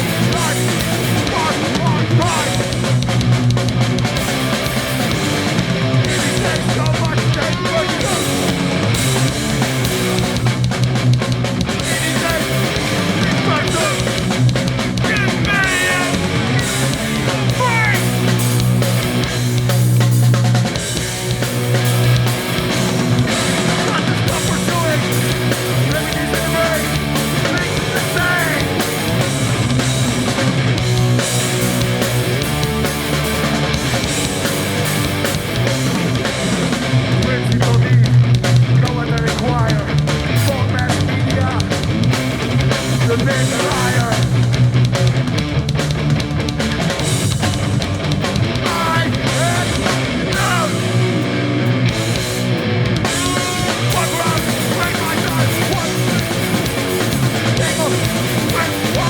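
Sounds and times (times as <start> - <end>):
bass guitar: 0.0 - 59.0
distorted electric guitars: 0.0 - 59.0
driving drum kit: 0.0 - 59.0.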